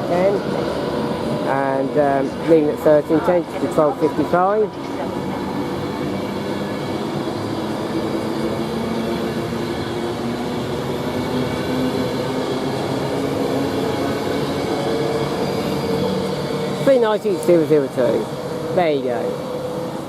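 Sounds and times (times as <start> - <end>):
traction motor hum: 0.0 - 20.0
train wheels rumbling on rail: 0.0 - 20.0.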